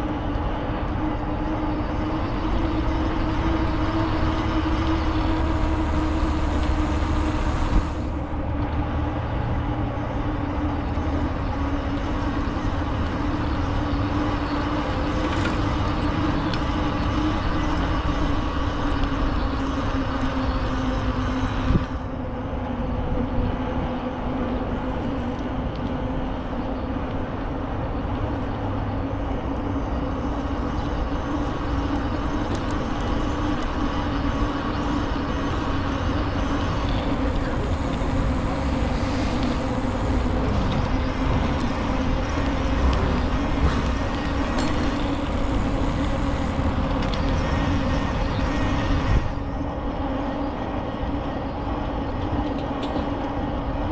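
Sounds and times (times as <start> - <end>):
bicycle tyre hum: 0.0 - 53.9
wind rumble: 0.0 - 53.9.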